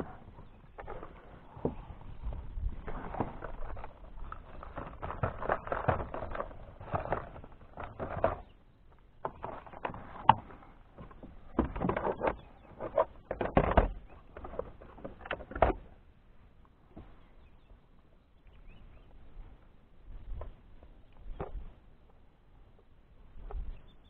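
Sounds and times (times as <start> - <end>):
gear knocking and rustling on kayak: 0.0 - 17.9, 18.7 - 24.0.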